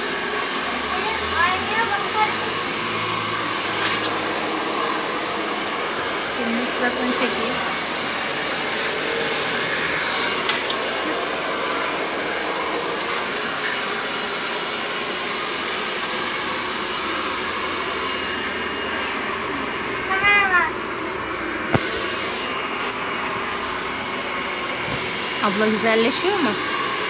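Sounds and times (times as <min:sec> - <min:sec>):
hair dryer blowing: 0:00.0 - 0:27.0.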